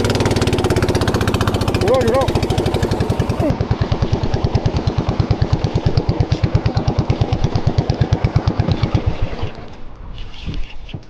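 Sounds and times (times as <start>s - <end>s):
small boat engine thudding: 0.0s - 9.9s.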